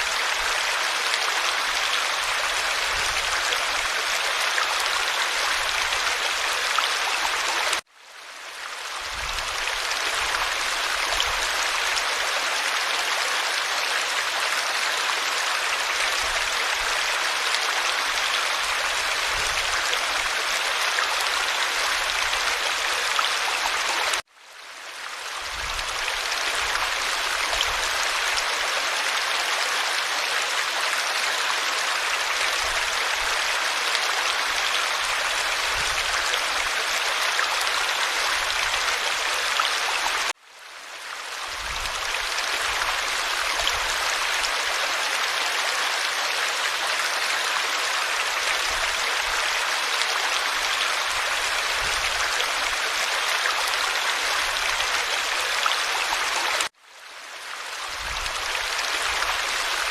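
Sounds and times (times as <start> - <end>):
stream rushing and babbling: 0.0 - 59.9.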